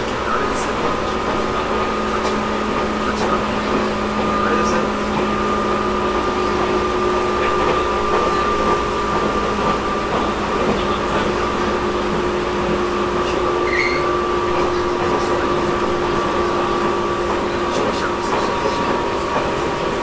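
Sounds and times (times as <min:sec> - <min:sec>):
wheel and rail noise: 0:00.0 - 0:20.0.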